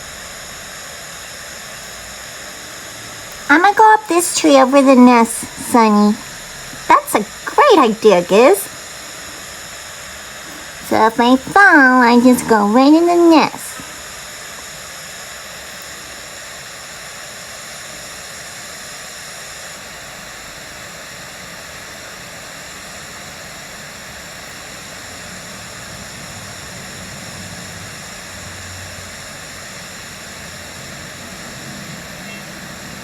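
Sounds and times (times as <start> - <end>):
steady hiss: 0.0 - 33.0.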